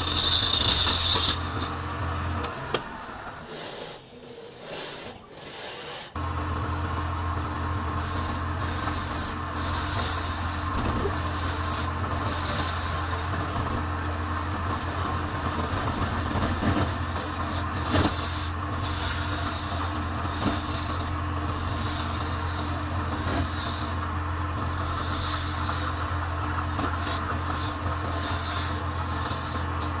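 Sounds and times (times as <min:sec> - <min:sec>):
wood lathe motor humming: 0:00.0 - 0:03.8, 0:06.2 - 0:30.0
turning tool scraping wood: 0:00.0 - 0:04.0, 0:07.8 - 0:30.0.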